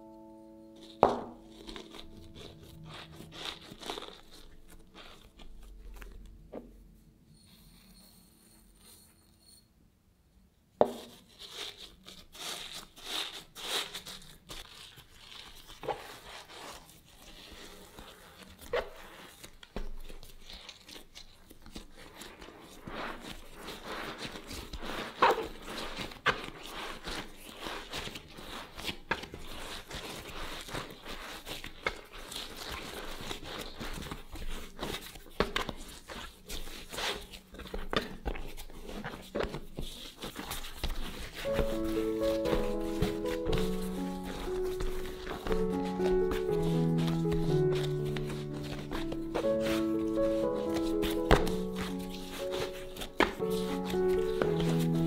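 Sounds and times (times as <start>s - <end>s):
hands kneading dough: 0.7s - 7.2s, 10.8s - 55.0s.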